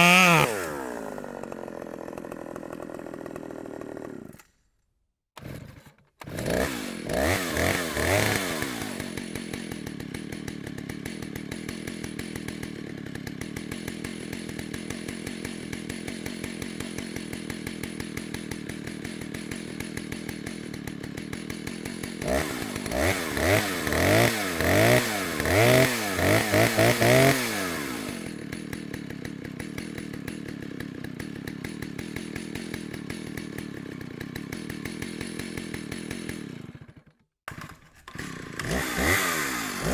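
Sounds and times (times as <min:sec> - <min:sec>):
chainsaw idling and revving: 0:00.0 - 0:04.6, 0:05.4 - 0:39.9.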